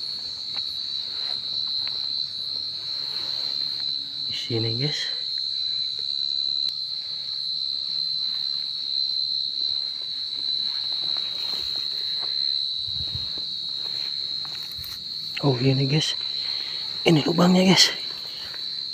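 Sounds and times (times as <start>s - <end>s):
cricket trilling: 0.0s - 18.9s.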